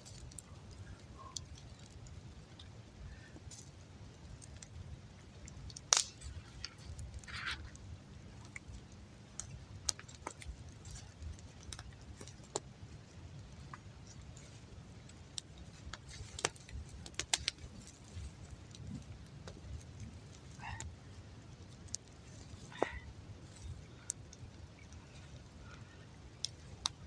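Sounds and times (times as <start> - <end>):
campfire crackling and popping: 0.0 - 27.0
low fire rumble: 0.0 - 27.0.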